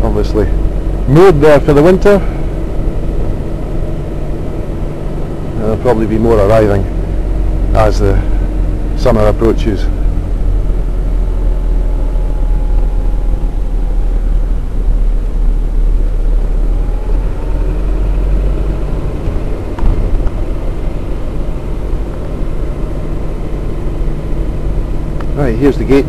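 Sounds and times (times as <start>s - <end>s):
vehicle rumbling: 0.0s - 26.0s.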